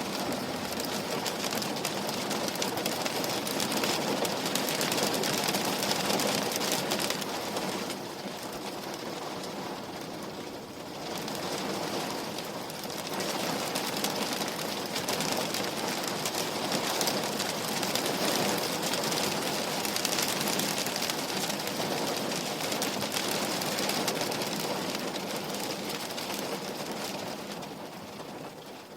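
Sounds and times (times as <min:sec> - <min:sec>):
rain on window glass: 0:00.0 - 0:28.9.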